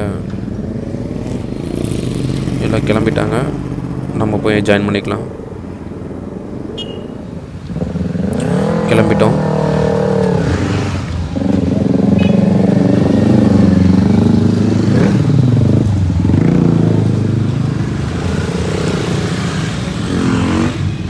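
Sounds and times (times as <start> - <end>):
motorcycle engine pulling away: 0.0 - 21.0.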